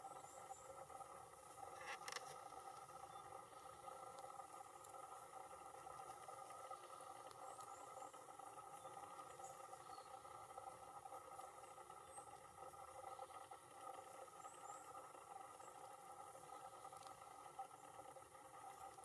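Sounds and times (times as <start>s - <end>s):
faint background hum: 0.0s - 19.0s.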